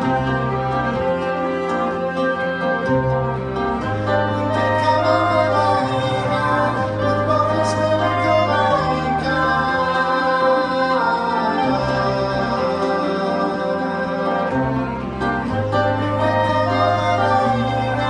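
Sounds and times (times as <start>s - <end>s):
acoustic guitar: 0.0s - 18.0s
cello: 0.0s - 18.0s
keyboard: 0.0s - 18.0s
long held bass notes: 0.0s - 18.0s
violins: 0.0s - 18.0s.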